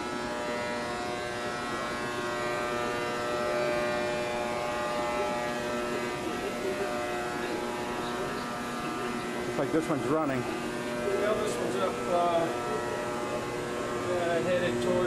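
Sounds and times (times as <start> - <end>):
constant rushing hiss: 0.0 - 15.0
transmitter electrical hum: 0.0 - 15.0.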